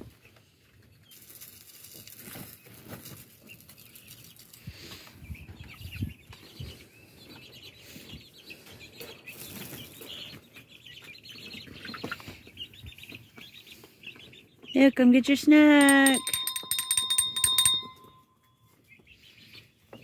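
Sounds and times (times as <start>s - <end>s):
young birds peeping and chirping: 0.1s - 16.2s, 18.7s - 20.0s.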